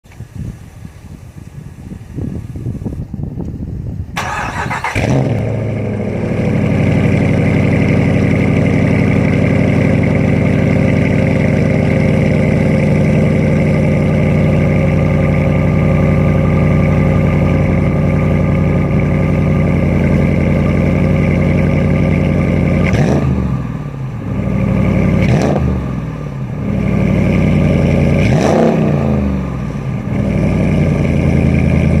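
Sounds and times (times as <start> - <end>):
car engine starting and idling: 0.1 - 32.0
engine revving: 4.2 - 32.0.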